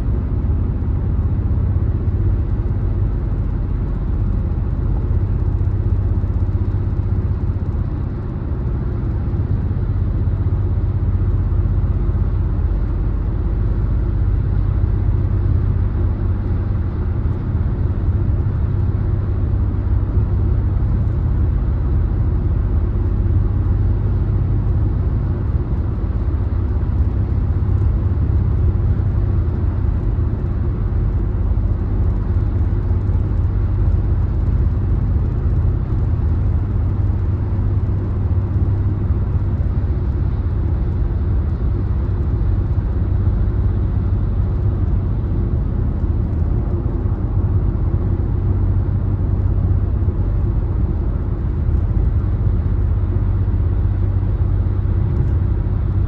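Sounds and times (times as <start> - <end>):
car road noise at speed: 0.0 - 56.0.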